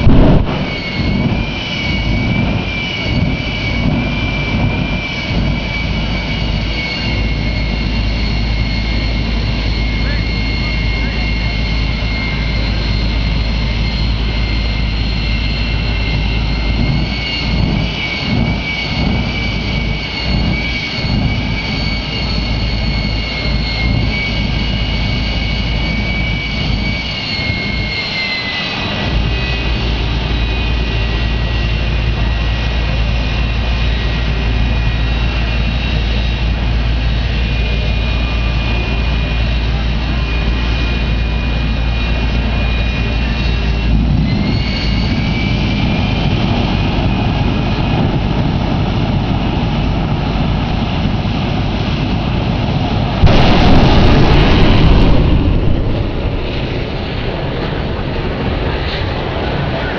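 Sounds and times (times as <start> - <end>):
jet turbine whine: 0.0 - 59.9
low rumble: 0.0 - 59.9.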